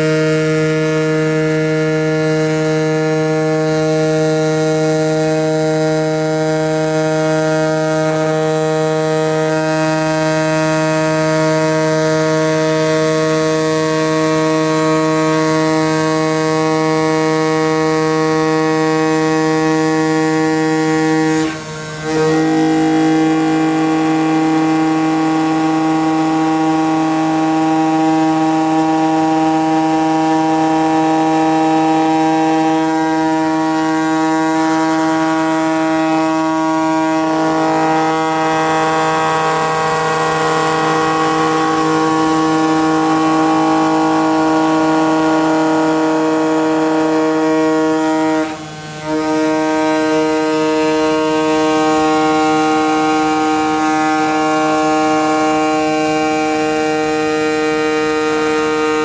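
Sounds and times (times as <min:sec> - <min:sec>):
cutting machine humming: 0:00.0 - 0:59.0.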